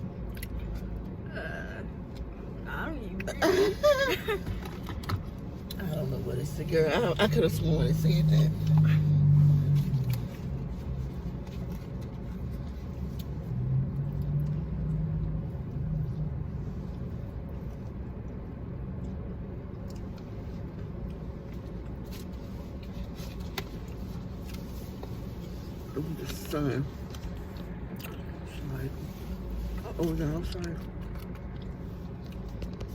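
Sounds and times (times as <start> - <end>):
vehicle rumble with humming tone: 0.0 - 32.9.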